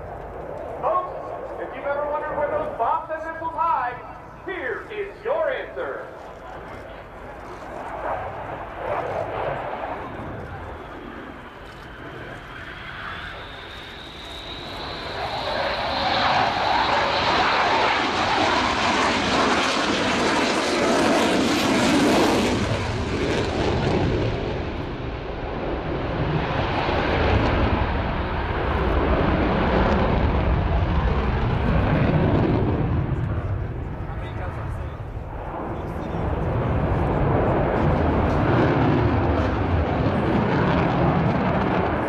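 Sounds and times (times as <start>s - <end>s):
high jet engine whine: 0.0s - 42.0s
jet engine roar passing: 0.0s - 42.0s.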